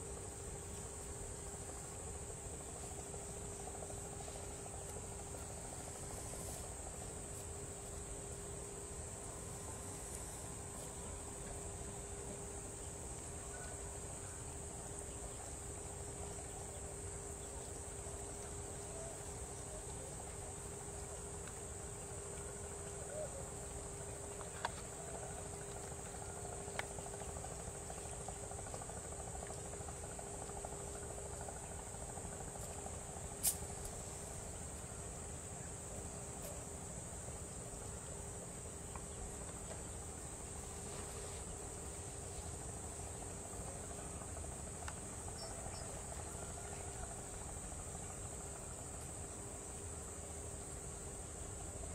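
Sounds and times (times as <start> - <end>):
high-pitched insect chorus: 0.0 - 51.9
low steady hum: 0.0 - 51.9.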